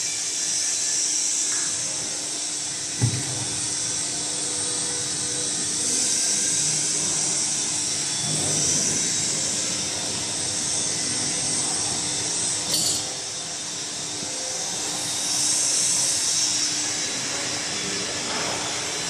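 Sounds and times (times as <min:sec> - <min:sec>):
mixer motor hiss and hum: 0:00.0 - 0:19.0.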